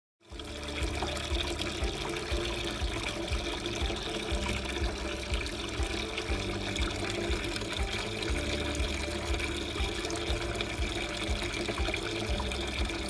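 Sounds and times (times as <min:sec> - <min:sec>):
fountain water trickling: 0:00.2 - 0:13.0.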